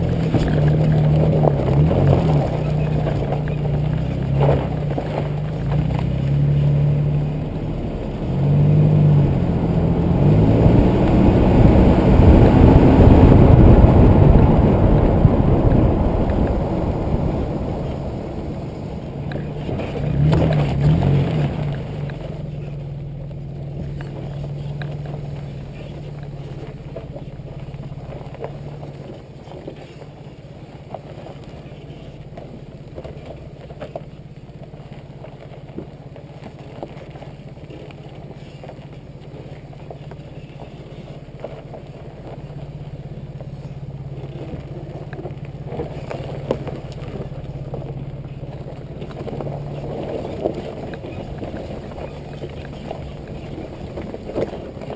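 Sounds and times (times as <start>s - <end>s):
car engine running off-road: 0.0s - 54.9s.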